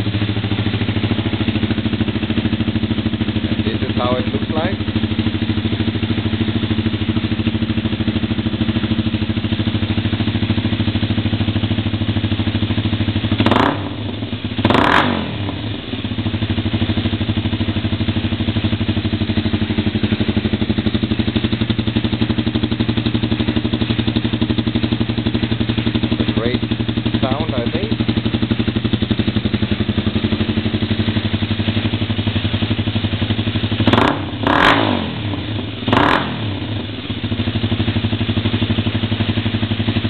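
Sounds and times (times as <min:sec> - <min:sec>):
motorcycle engine idling: 0:00.0 - 0:40.0
motorcycle throttle blips: 0:00.0 - 0:40.0.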